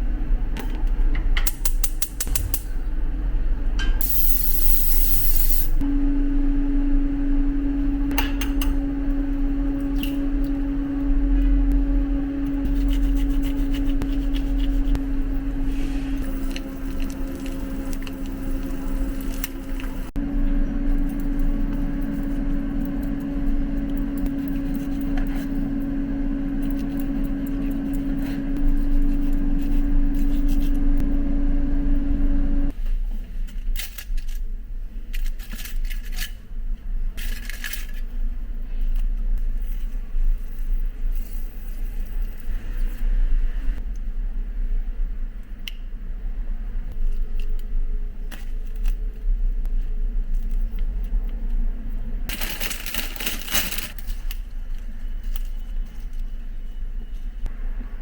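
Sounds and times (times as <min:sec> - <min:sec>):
steady low hum: 0:00.0 - 0:33.7, 0:36.3 - 0:58.0.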